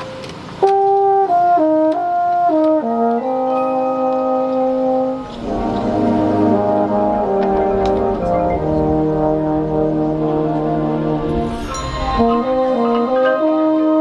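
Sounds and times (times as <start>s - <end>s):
low brass fuller chord: 0.0s - 14.0s
marching band brass melody: 0.0s - 14.0s.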